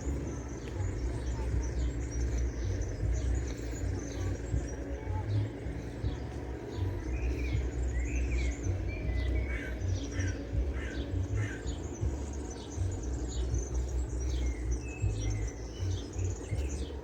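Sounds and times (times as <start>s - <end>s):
small birds chirping and trilling: 0.0s - 17.0s
steady low rumble: 0.0s - 17.0s.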